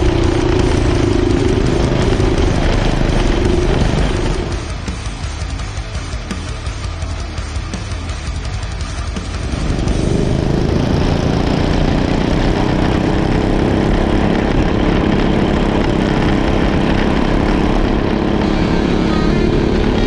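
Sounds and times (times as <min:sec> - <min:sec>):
kart engine droning: 0:00.0 - 0:20.0.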